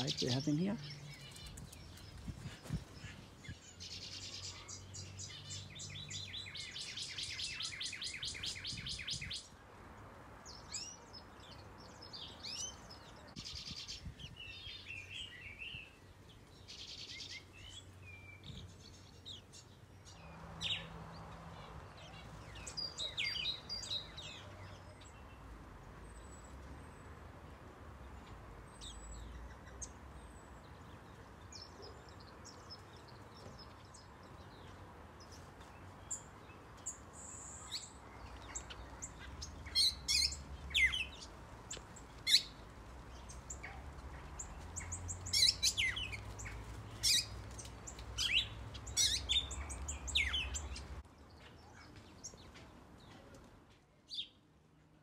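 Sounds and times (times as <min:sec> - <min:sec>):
small birds chirping and calling: 0:00.0 - 0:09.6, 0:10.4 - 0:53.4.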